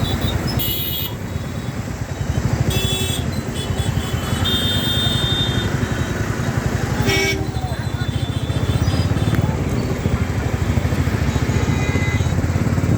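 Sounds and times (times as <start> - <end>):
vehicle engines rumbling: 0.0 - 12.9.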